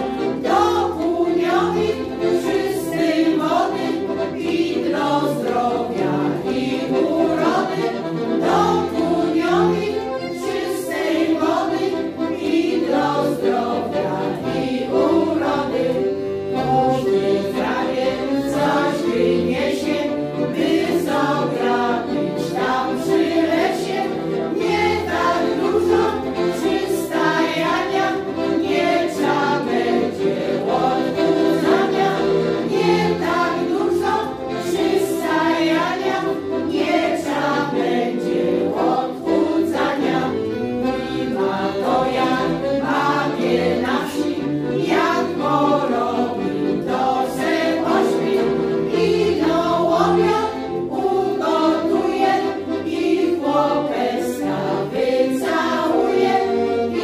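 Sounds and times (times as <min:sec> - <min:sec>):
accordion: 0:00.0 - 0:57.0
women singing folk song: 0:00.0 - 0:57.0.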